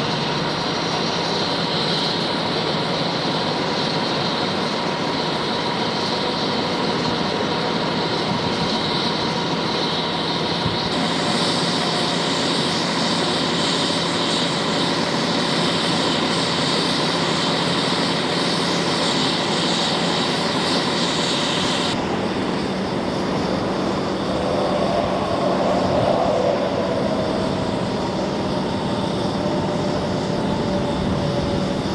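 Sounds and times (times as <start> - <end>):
diesel engine running water pump: 0.0 - 31.9.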